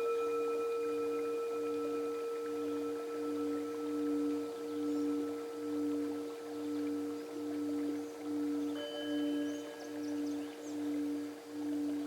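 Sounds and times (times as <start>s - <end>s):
singing bowl tone: 0.0s - 12.0s.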